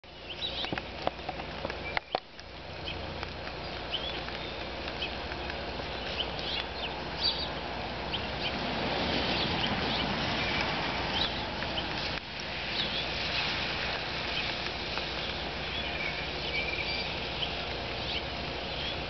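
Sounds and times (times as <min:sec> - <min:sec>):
outdoor background noise: 0:00.0 - 0:19.0
songbirds chirping: 0:00.0 - 0:19.0.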